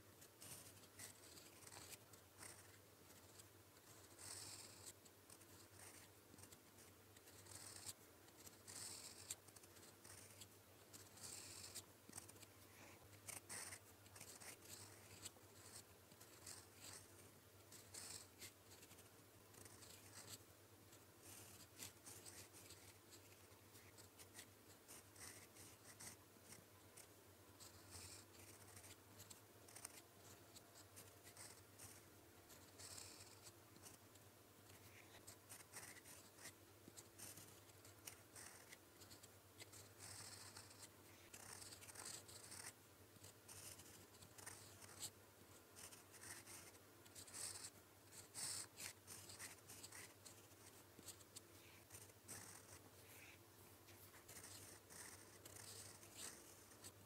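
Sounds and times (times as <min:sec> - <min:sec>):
pen nib scratching paper: 0:00.2 - 0:57.0.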